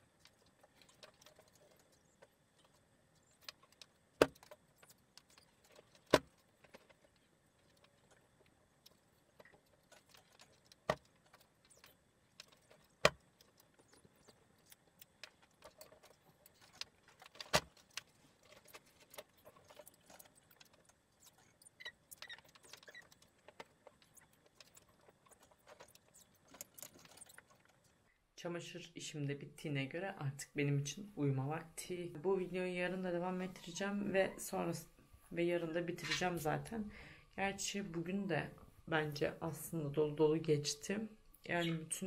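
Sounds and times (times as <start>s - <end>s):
soft rustling of laundry: 0.0s - 42.0s.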